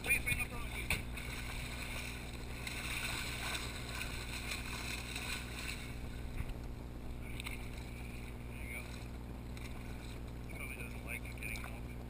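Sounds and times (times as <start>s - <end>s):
boat engine running: 0.0s - 12.0s
water splashing against hull: 0.0s - 12.0s.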